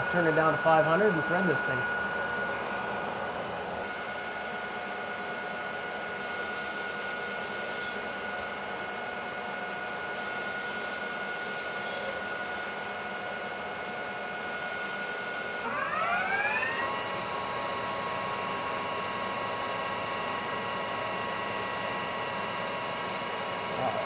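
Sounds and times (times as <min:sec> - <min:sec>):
metal lathe whining: 0:00.0 - 0:24.0.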